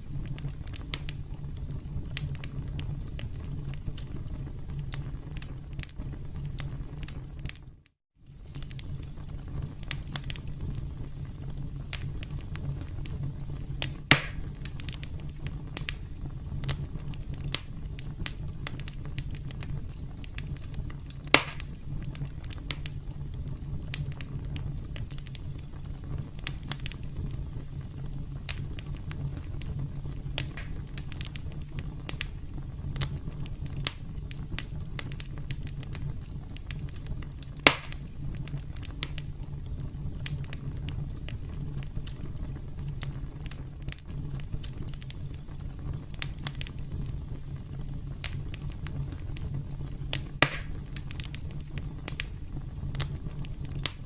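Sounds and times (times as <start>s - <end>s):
campfire crackling: 0.0s - 54.0s
loud fire snaps: 0.0s - 54.0s.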